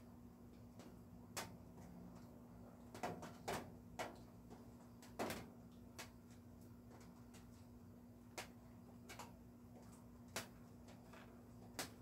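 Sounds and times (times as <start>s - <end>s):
raindrops tapping on a roof: 0.5s - 7.7s, 8.3s - 12.0s.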